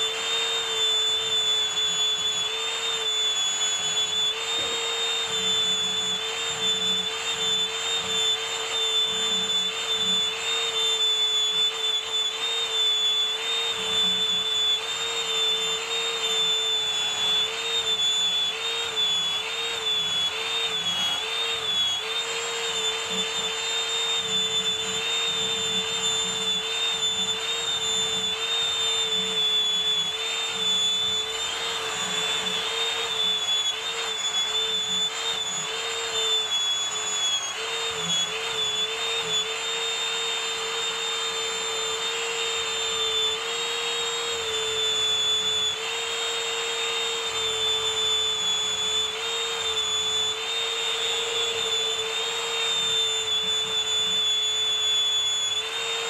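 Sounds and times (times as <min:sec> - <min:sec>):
electric power tool whining: 0:00.0 - 0:56.0.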